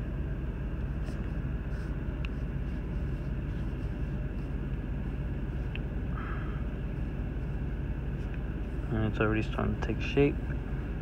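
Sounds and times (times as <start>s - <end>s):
truck idling hum: 0.0s - 11.0s.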